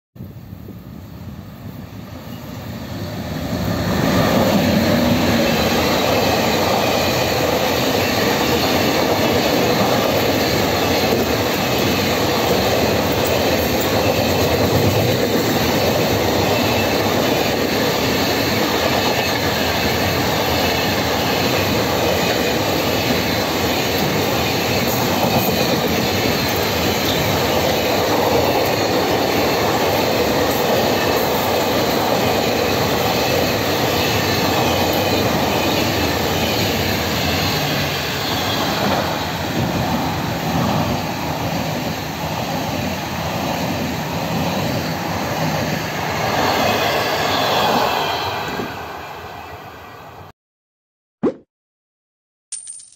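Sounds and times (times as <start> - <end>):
freight train wheels rumbling: 0.2 - 49.2.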